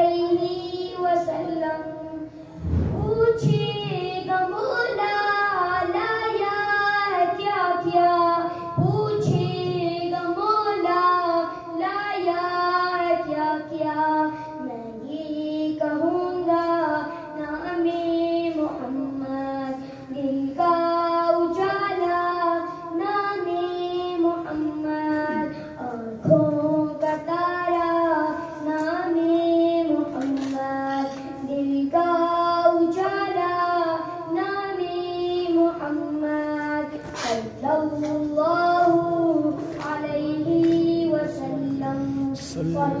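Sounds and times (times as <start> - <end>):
boy singing devotional song: 0.0 - 43.0.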